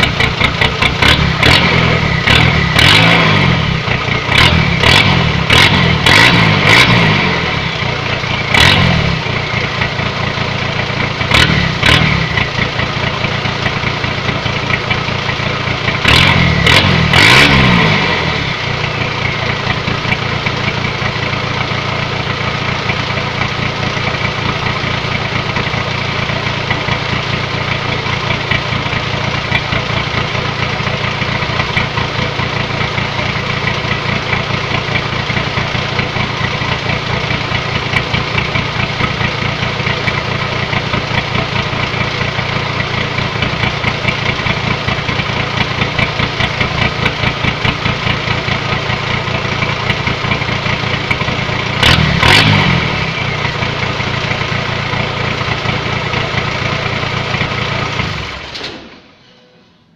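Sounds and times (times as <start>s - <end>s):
pickup engine revving and idling: 0.0s - 14.9s, 15.5s - 22.7s, 23.6s - 58.4s.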